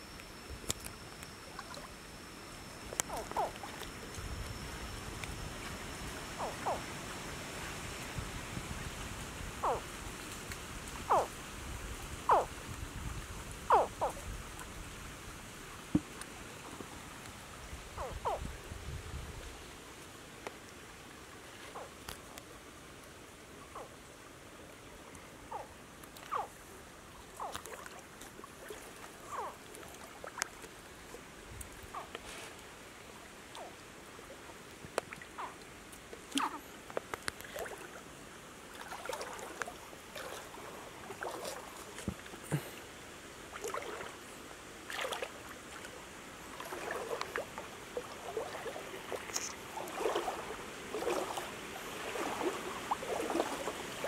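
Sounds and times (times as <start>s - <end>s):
water splashing in a stream: 2.8s - 18.4s, 20.0s - 54.0s.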